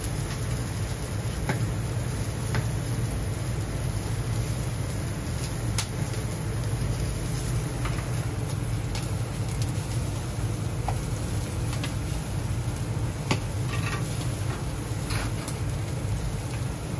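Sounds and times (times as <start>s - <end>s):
grill low rumble: 0.0s - 16.9s
meat sizzling on a grill: 0.0s - 16.9s.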